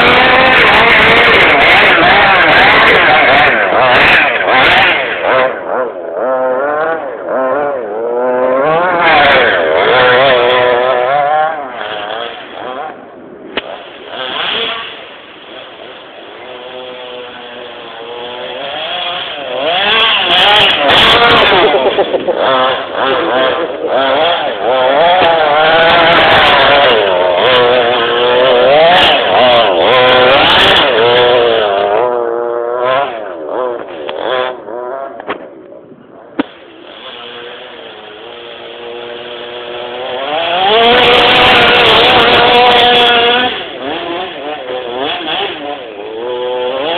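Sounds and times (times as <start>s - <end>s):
small two-stroke engine revving: 0.0s - 46.9s.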